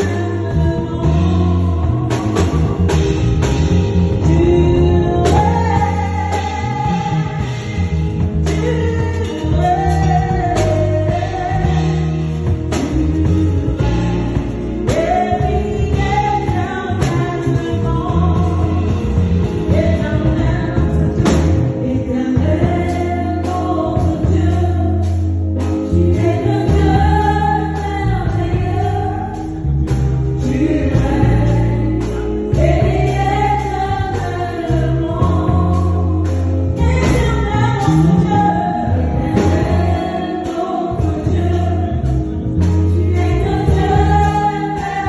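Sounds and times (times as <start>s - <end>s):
backing band with bass and drums: 0.0s - 45.0s
gospel choir singing: 0.0s - 45.0s.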